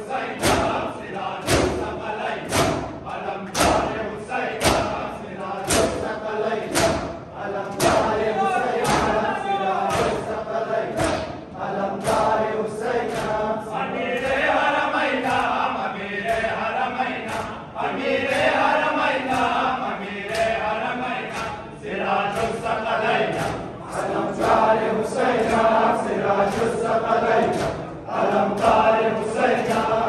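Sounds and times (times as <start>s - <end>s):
crowd chanting: 0.0s - 30.0s
hands slapping chests: 0.4s - 4.0s, 4.6s - 13.6s, 14.2s - 17.6s, 18.2s - 19.7s, 20.3s - 20.7s, 21.3s - 21.6s, 22.3s - 30.0s.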